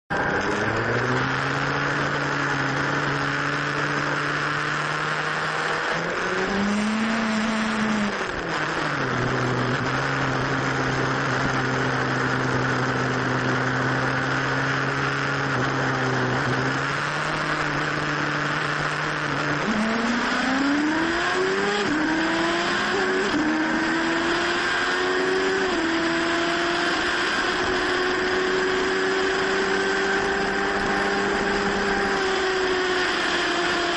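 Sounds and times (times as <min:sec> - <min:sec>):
car engine accelerating: 0:00.1 - 0:33.9
road noise: 0:00.1 - 0:33.9.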